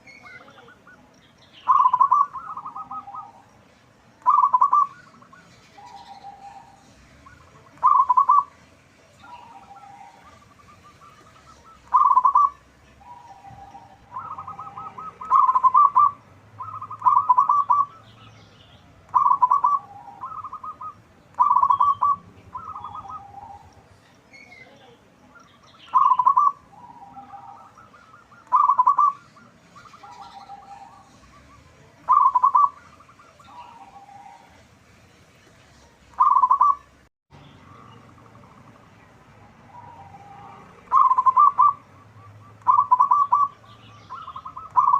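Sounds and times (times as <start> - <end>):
doves cooing: 0.0 - 24.0, 25.3 - 34.7, 35.8 - 44.9.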